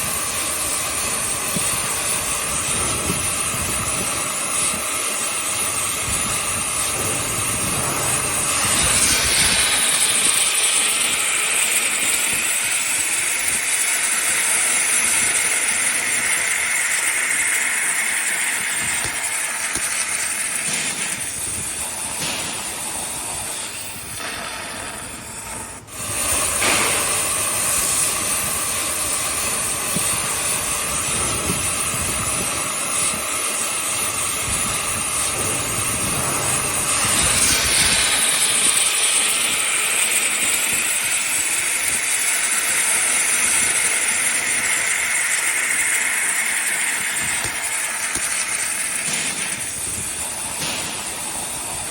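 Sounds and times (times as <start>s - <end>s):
cutting torch hissing: 0.0s - 51.9s.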